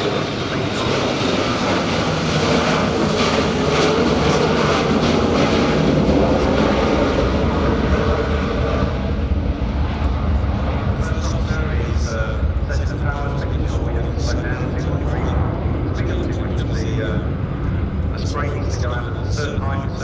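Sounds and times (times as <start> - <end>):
jet flying past: 0.0 - 20.0.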